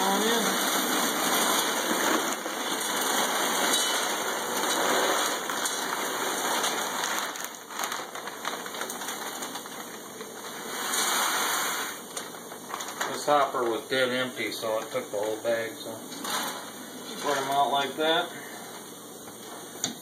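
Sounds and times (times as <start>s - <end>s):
wood pellets pouring: 0.0s - 15.7s, 16.3s - 18.3s.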